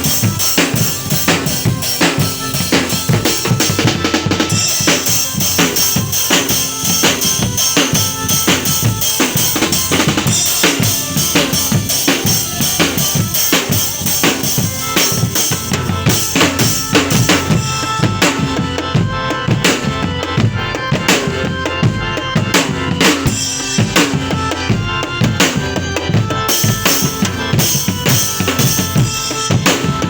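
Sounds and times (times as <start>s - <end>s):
drum-led music with fast beat: 0.0s - 30.0s.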